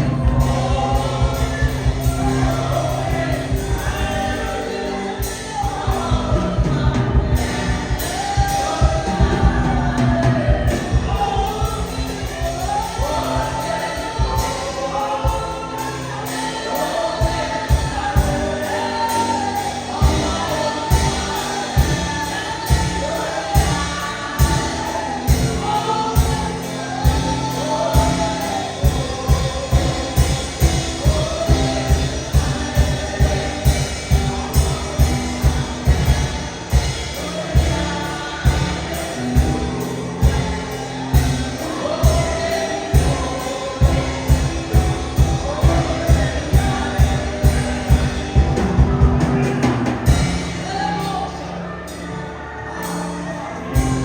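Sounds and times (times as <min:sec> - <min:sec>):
steady drum beat: 0:00.0 - 0:52.0, 0:53.6 - 0:54.0
choir singing gospel: 0:00.0 - 0:54.0.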